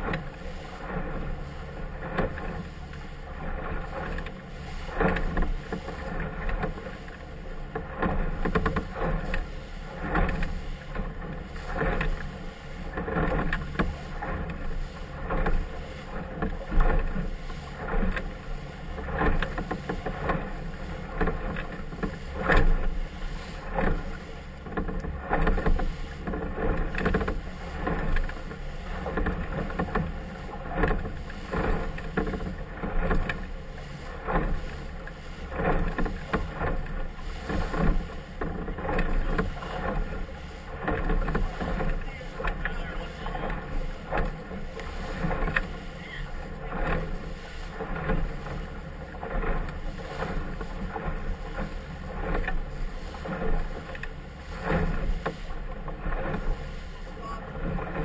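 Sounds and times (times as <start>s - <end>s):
hull slapping on waves: 0.0s - 58.0s
motorboat engine drone: 0.0s - 58.0s
water rushing: 0.0s - 58.0s.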